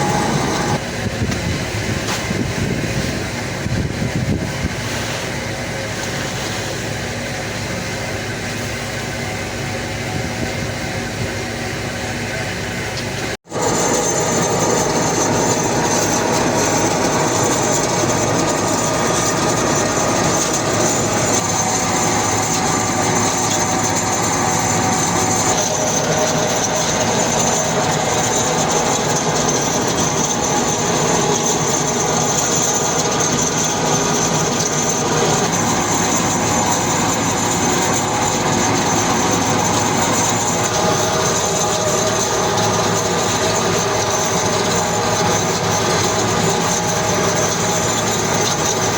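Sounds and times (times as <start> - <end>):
high machine whine: 0.0 - 48.9
industrial machinery running: 0.0 - 48.9.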